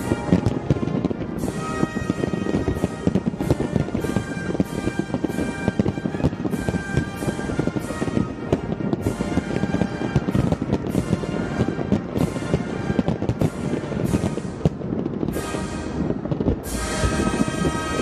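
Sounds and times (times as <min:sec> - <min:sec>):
fireworks bursting and crackling: 0:00.0 - 0:18.0.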